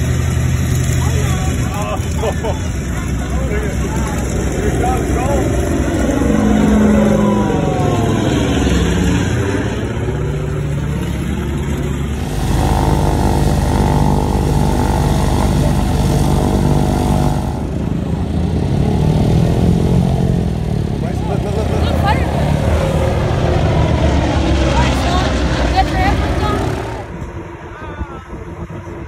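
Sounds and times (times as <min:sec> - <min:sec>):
plane engine running on ground: 0:00.0 - 0:29.0
propeller plane passing overhead: 0:00.0 - 0:29.0.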